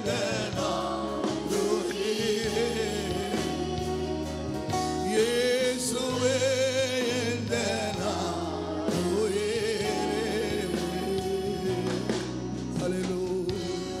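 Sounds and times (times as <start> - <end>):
women singing worship song: 0.0 - 13.9
instrumental accompaniment: 0.0 - 14.0.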